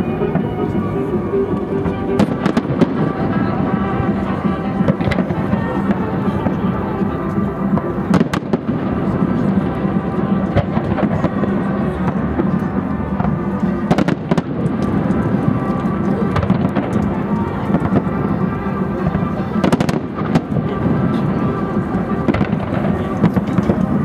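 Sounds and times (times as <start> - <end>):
fireworks bursting: 0.0 - 24.0
music playing: 0.0 - 24.0.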